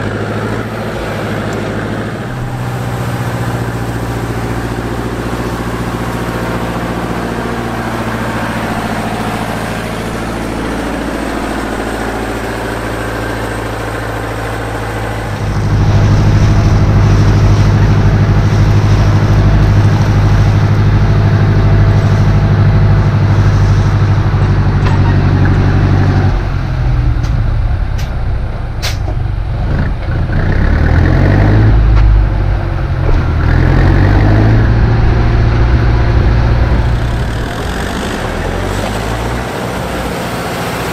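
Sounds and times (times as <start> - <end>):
tractor diesel engine: 0.0 - 40.9.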